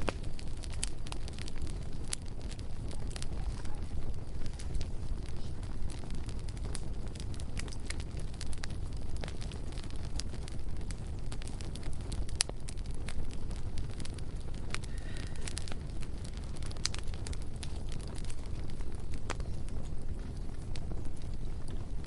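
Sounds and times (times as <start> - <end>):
bonfire low rumble: 0.0 - 22.0
burning wood crackling and popping: 0.0 - 22.0.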